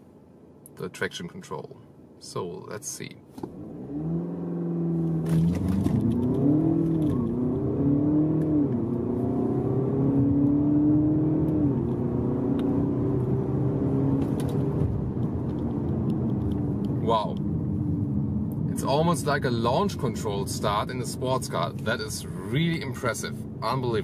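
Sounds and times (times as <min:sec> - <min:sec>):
diesel car accelerating hard: 0:03.4 - 0:24.0.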